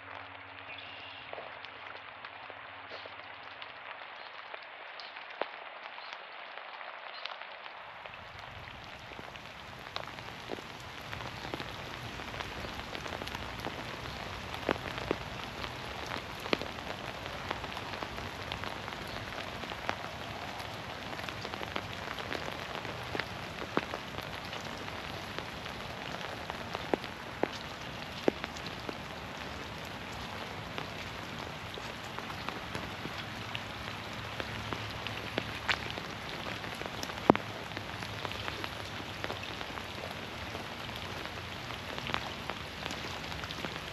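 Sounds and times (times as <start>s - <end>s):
single raindrops striking close: 0.0s - 43.9s
steady rain falling: 0.0s - 43.9s.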